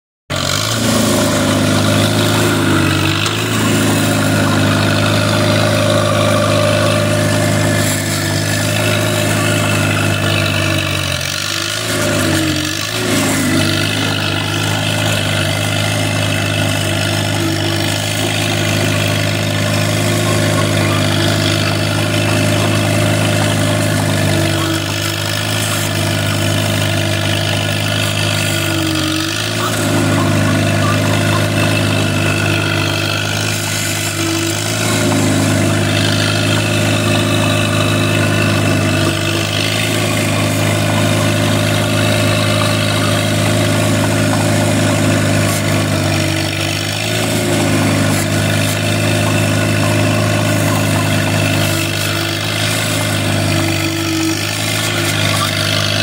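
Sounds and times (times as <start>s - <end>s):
bulldozer engine running: 0.3s - 56.0s.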